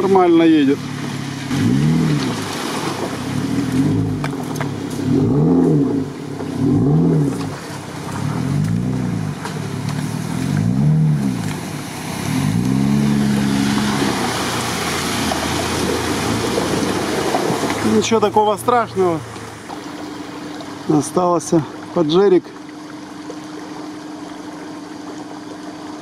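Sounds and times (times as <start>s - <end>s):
suv engine revving: 0.0s - 22.0s
water splashing: 0.0s - 26.0s.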